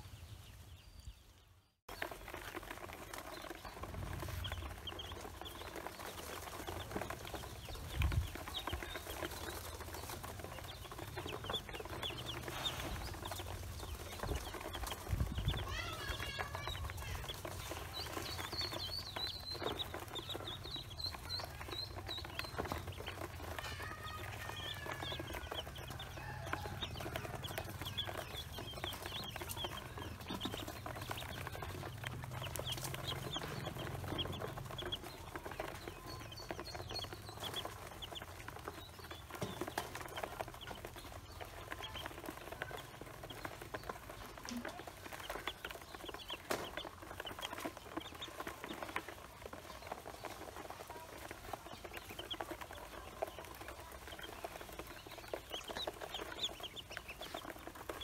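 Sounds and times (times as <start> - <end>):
ducklings peeping: 0.0 - 58.0.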